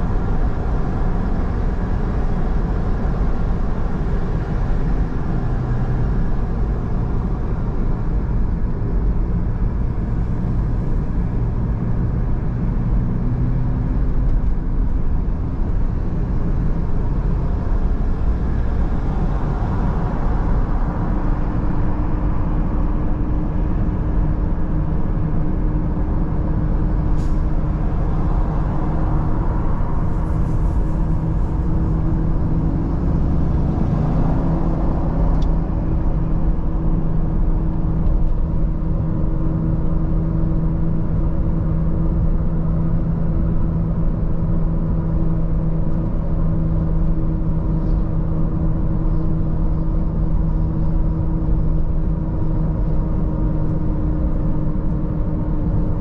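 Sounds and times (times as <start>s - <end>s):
car engine drone: 0.0s - 56.0s
tyre and road noise: 0.0s - 56.0s.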